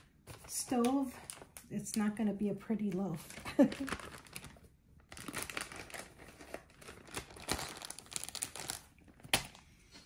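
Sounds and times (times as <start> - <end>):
plastic bags crinkling: 0.0 - 2.2, 2.8 - 9.7.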